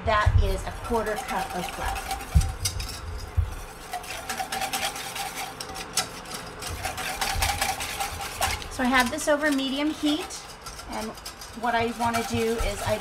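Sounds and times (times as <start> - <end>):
whisk scraping a metal pan: 0.4 - 13.0.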